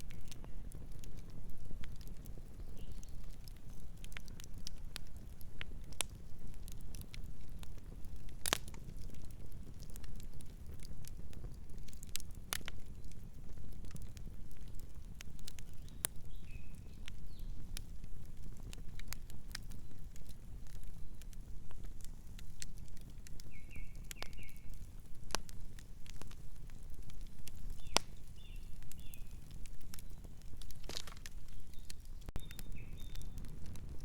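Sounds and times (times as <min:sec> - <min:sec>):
campfire burning: 0:00.0 - 0:34.0
wood crackling and popping: 0:00.0 - 0:34.0.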